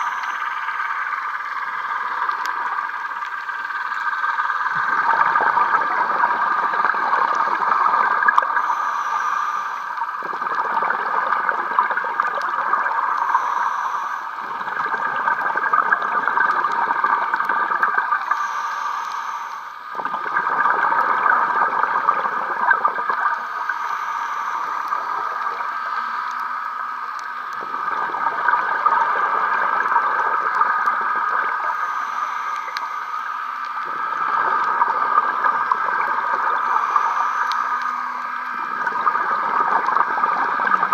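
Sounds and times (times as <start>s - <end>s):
exhaled bubbles gurgling underwater: 0.0s - 40.9s
steady regulator hiss: 0.0s - 40.9s.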